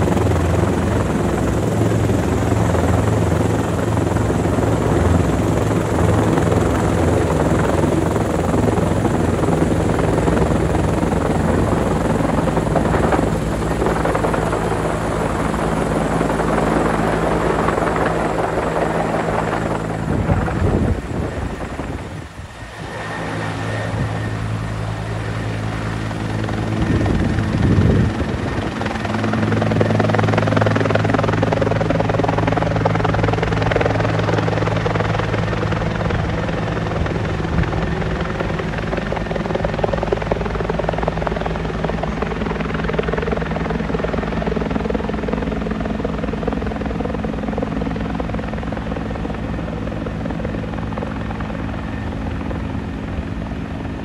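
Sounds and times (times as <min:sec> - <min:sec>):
helicopter flying overhead: 0:00.0 - 0:54.0.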